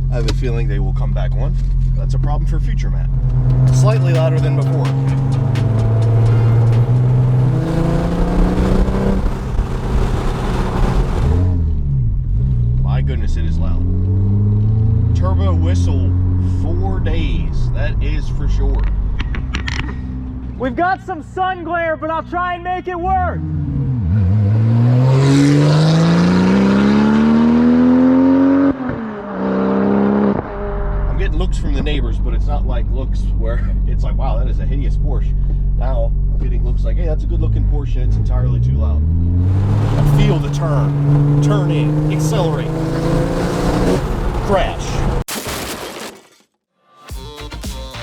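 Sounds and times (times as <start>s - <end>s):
sports car engine accelerating: 0.0s - 20.6s, 23.4s - 45.2s.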